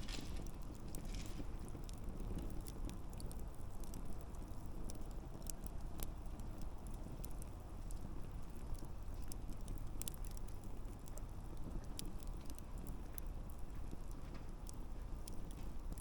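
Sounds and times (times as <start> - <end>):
logs crackling and popping: 0.0 - 16.0
low sound of flames: 0.0 - 16.0.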